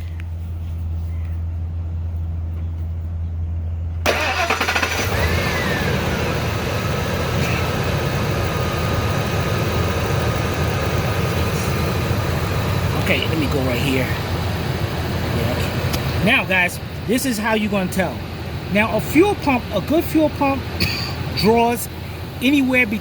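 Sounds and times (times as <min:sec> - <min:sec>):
steady low hum: 0:00.0 - 0:23.0
truck engine cranking and idling: 0:00.0 - 0:23.0.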